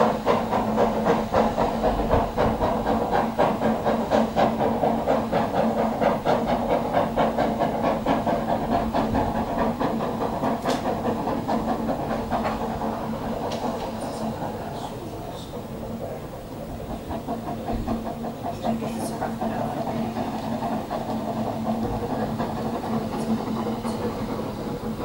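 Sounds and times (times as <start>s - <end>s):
steam hiss: 0.0s - 25.0s
steam locomotive chuffing: 0.0s - 25.0s.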